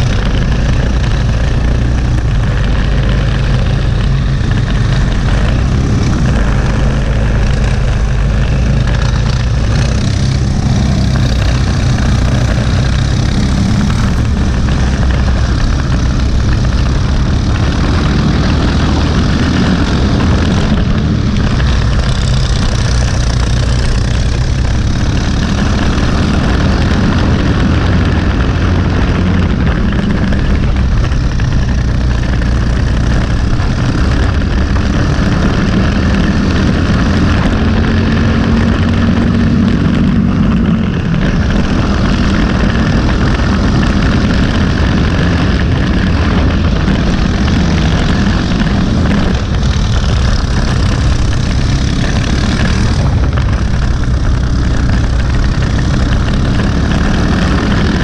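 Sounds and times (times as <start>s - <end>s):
kart engine droning: 0.0s - 58.0s.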